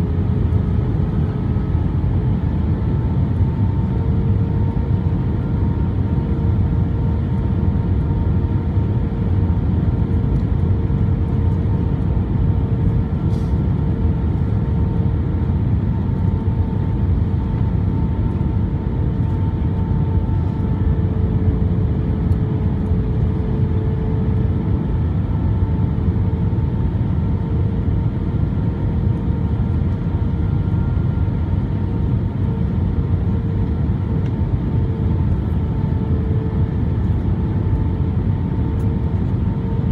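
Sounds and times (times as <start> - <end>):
aircraft cabin rumble: 0.0 - 39.9.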